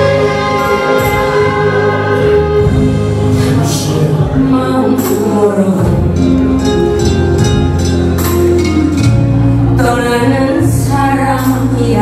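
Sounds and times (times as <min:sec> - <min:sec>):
woman singing into microphone: 0:00.0 - 0:06.9, 0:08.6 - 0:12.0
instrumental backing track: 0:00.0 - 0:12.0.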